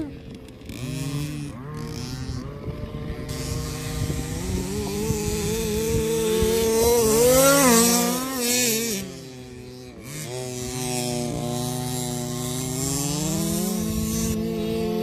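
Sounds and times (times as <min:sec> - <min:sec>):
rc car engine passing by: 0:00.0 - 0:15.0.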